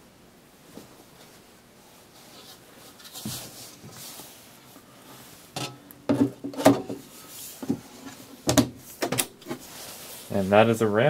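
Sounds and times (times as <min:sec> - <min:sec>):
handling rustle: 0:00.6 - 0:10.8.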